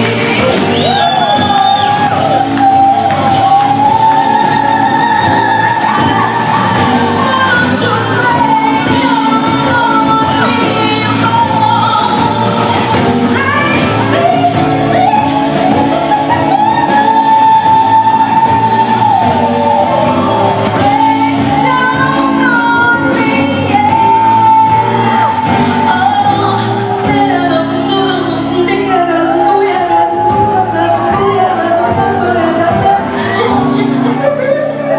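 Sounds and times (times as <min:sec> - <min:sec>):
live band music: 0:00.0 - 0:34.9.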